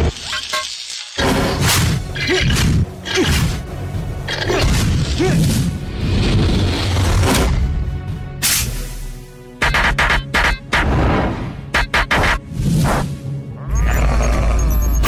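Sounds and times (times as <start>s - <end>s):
dramatic music: 1.2s - 15.0s.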